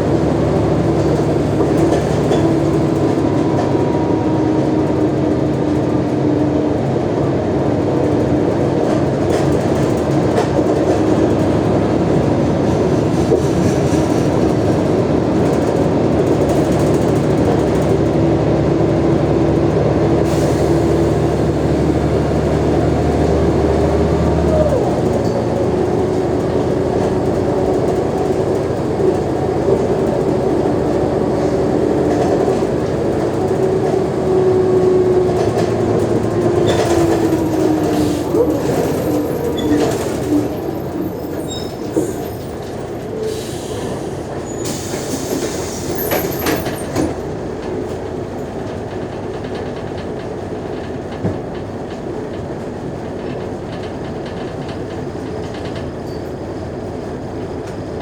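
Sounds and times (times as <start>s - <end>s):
bus engine drone with rattles: 0.0s - 58.0s.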